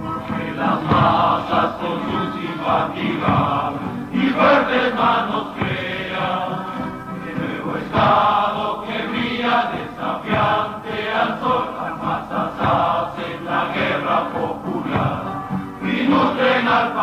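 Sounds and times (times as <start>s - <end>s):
choir singing: 0.0s - 17.0s
instrumental accompaniment: 0.0s - 17.0s.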